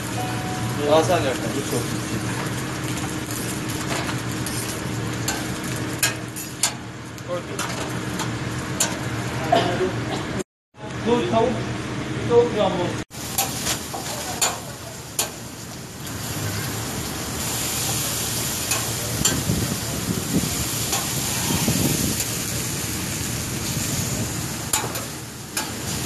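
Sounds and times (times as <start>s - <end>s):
meat sizzling on griddle: 0.0s - 9.5s, 13.1s - 26.0s.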